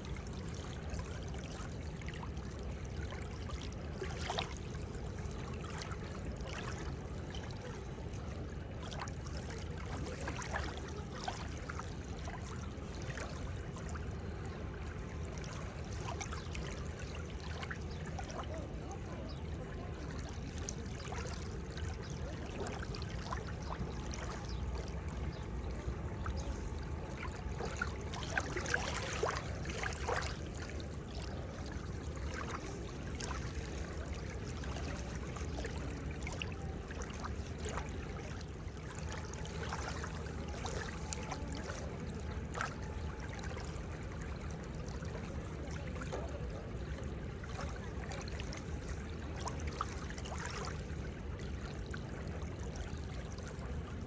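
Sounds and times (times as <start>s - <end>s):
seawater lapping at shoreline: 0.0s - 54.0s.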